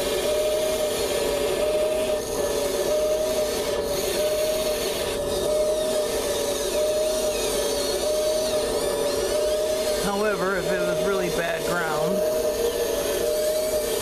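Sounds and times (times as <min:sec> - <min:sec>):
electric servos whining: 0:00.0 - 0:14.0
grinding drone: 0:00.0 - 0:14.0.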